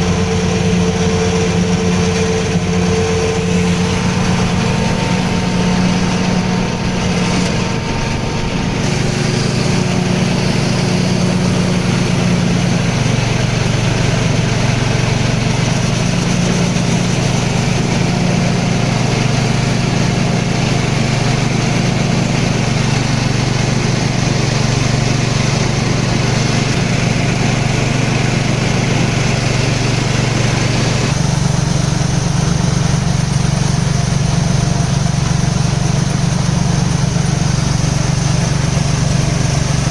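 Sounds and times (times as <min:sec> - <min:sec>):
small engine running under load: 0:00.0 - 0:39.9.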